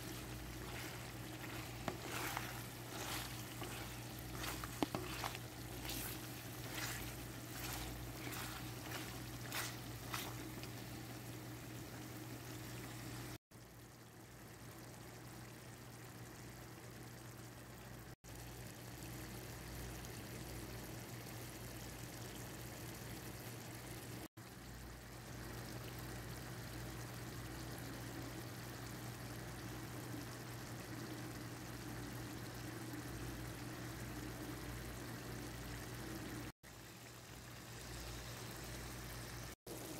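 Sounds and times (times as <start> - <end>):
curry sizzling and bubbling: 0.0 - 39.9
low constant hum: 0.0 - 39.9.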